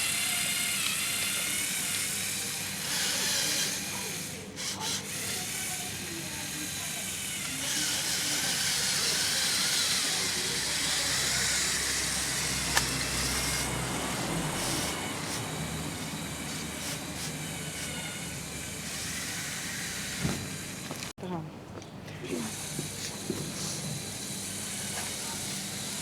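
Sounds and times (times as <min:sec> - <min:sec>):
small electric motors whining: 0:00.0 - 0:21.1, 0:22.2 - 0:26.0.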